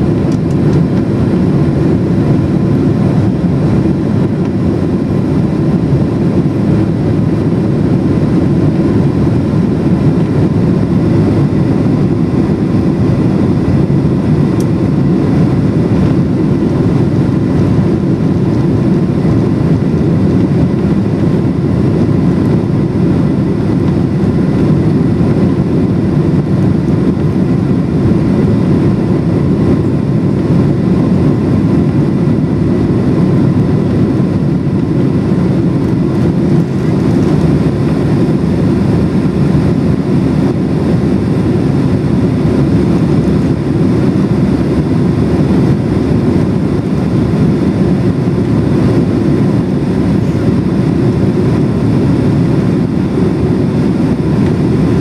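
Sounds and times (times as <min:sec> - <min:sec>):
jet engine rumble and rushing air: 0:00.0 - 0:55.0.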